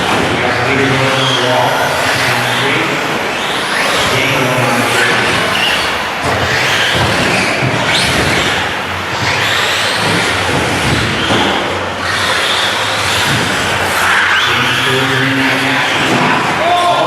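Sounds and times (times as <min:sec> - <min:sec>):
rc truck motors whining: 0:00.0 - 0:17.0.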